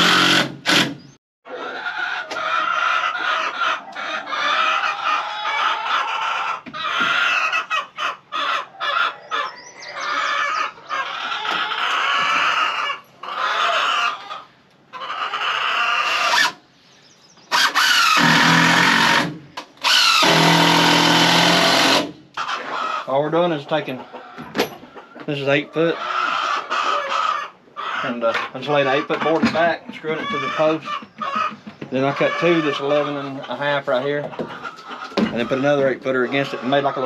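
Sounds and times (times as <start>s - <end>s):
chickens clucking: 1.0s - 37.0s.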